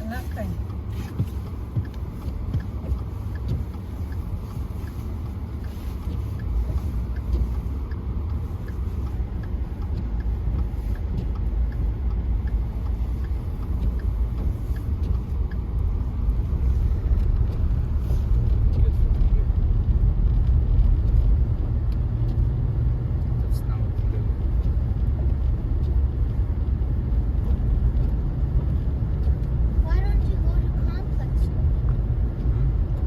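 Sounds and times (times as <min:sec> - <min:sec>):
car road noise rumble: 0:00.0 - 0:33.0
faint regular ticking: 0:00.0 - 0:33.0.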